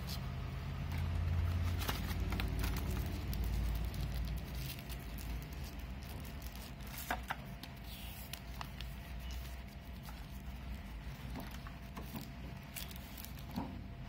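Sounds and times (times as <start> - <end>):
low steady hum: 0.0 - 14.0
plastic packaging crinkling: 0.9 - 13.9.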